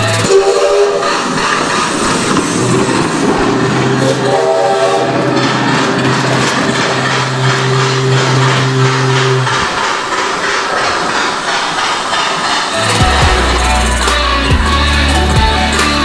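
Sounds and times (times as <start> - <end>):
rhythmic train-like clatter: 0.0 - 16.0.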